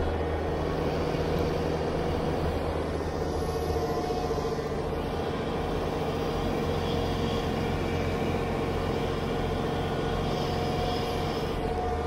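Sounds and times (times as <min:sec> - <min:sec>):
diesel engine running under load: 0:00.0 - 0:12.0.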